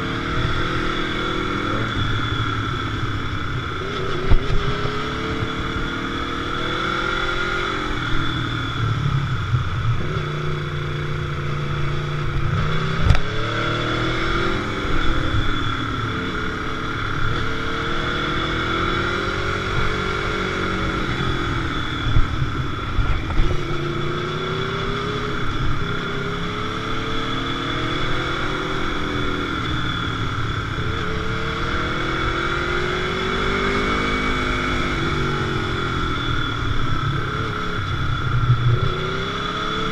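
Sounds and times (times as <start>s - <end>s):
motorcycle engine revving: 0.0s - 39.9s
steady low rush: 0.0s - 39.9s.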